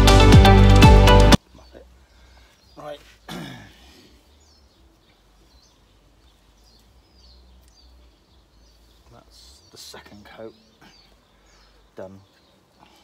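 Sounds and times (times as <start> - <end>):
faint bird chirps: 1.4 - 13.0.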